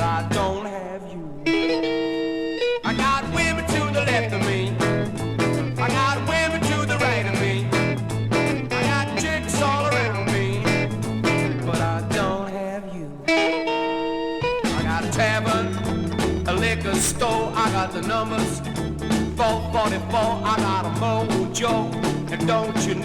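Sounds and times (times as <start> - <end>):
bass line: 0.0 - 0.7, 1.5 - 12.6, 13.3 - 23.0
drums beat: 0.0 - 0.7, 2.9 - 12.5, 14.4 - 23.0
electric guitar: 0.0 - 23.0
rhythm and blues rock band: 0.0 - 23.0.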